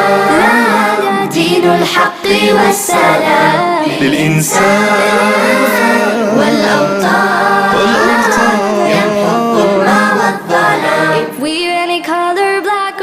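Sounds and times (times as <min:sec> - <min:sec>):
voices singing unaccompanied: 0:00.0 - 0:11.8.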